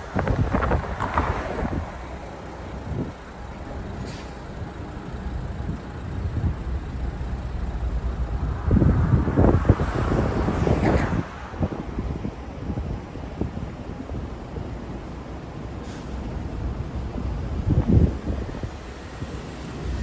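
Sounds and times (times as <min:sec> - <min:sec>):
low rumble of road traffic: 0:00.0 - 0:20.0
wind buffeting microphone: 0:00.0 - 0:20.0.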